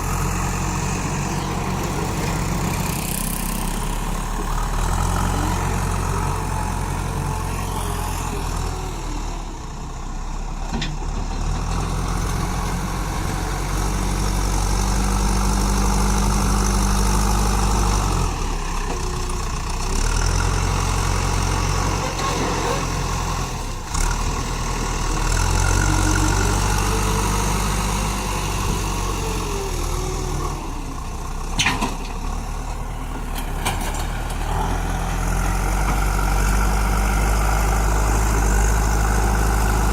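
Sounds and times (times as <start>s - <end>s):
diesel engine working: 0.0s - 39.9s.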